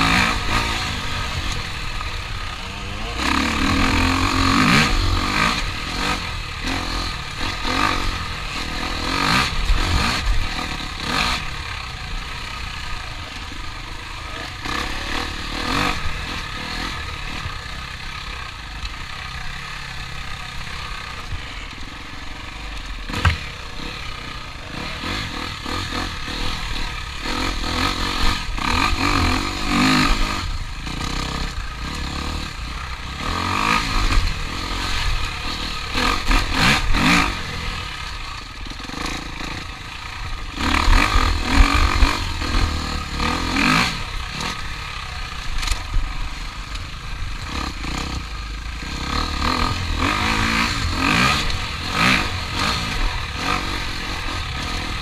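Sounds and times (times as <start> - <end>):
clatter: 0.0 - 55.0
engines running and revving: 0.0 - 55.0.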